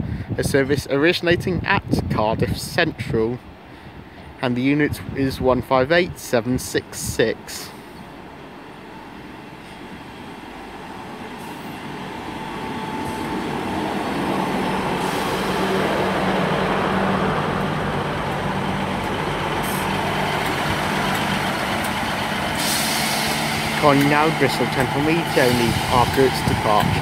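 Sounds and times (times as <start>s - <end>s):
diesel train engine hum: 3.2s - 27.0s.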